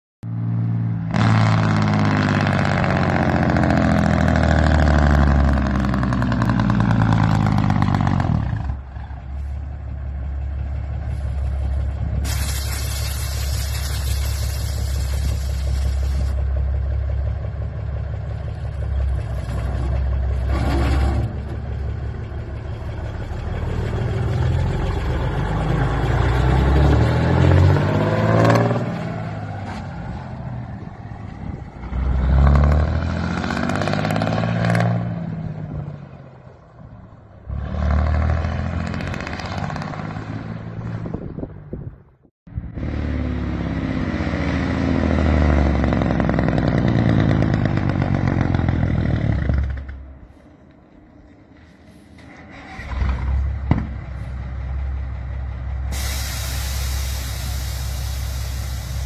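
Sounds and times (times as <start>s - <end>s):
truck diesel engine revving: 0.4s - 35.8s, 37.4s - 41.0s, 42.6s - 49.8s, 52.5s - 59.0s.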